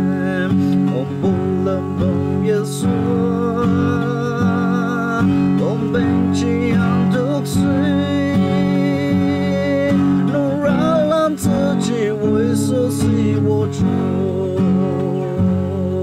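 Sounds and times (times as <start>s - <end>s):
man singing slow melody: 0.0s - 16.0s
strummed acoustic guitar: 0.0s - 16.0s.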